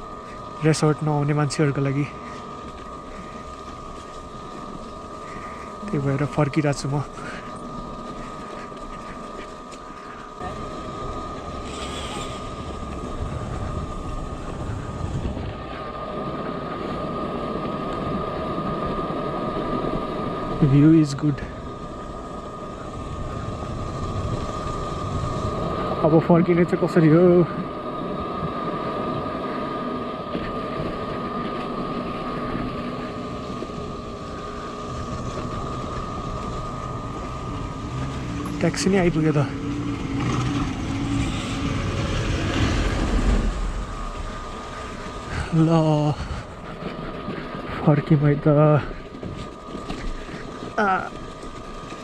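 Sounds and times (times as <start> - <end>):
electric motor whine: 0.0 - 52.0
tyre rumble on rough road: 0.0 - 52.0
wind noise: 2.0 - 52.0.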